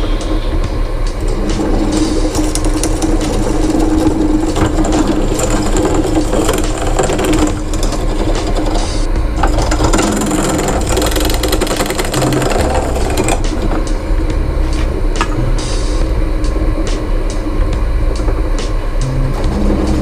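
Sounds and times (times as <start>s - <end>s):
drill press humming: 0.0s - 20.0s.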